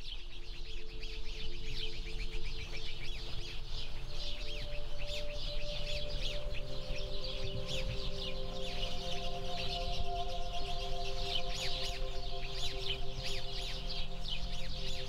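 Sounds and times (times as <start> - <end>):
small birds chirping: 0.0 - 15.0
held musical notes: 0.9 - 15.0.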